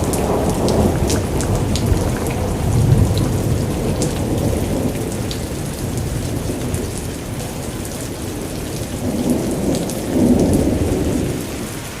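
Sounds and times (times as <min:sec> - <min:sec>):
heavy rain: 0:00.0 - 0:12.0
low storm rumble: 0:00.0 - 0:12.0.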